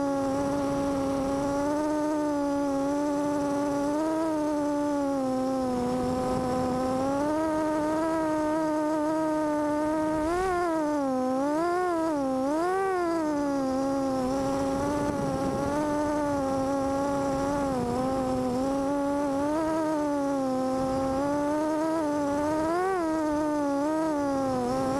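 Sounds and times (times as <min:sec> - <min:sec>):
quadcopter motors whining: 0:00.0 - 0:24.9.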